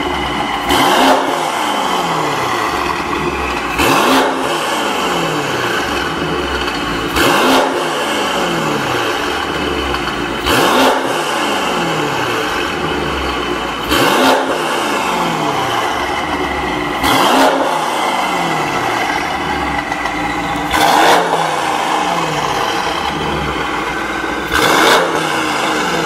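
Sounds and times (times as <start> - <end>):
car engine revving from idle: 0.0 - 26.0.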